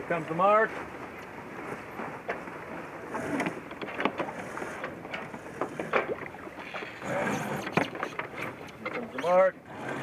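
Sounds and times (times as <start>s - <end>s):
rush of wind and water: 0.0s - 10.0s.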